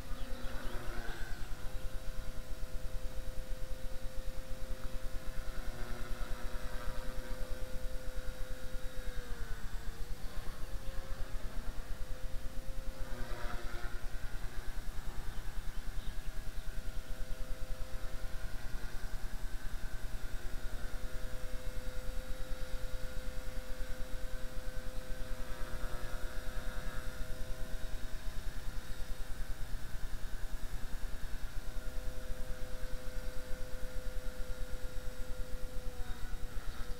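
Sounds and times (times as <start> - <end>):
rc helicopter rotor whine: 0.0 - 36.9.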